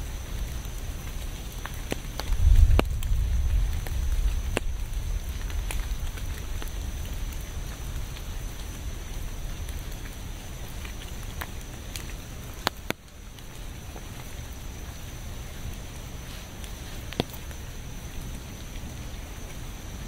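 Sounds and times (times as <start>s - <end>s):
drips ticking: 0.0s - 20.0s
rain falling: 0.0s - 20.0s.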